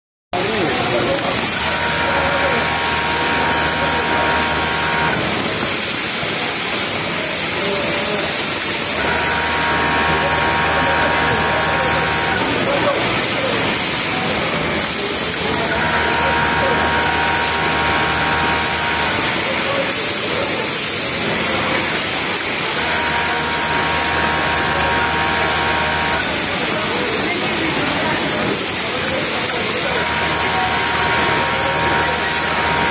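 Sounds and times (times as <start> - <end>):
factory machinery hissing: 0.4 - 32.9.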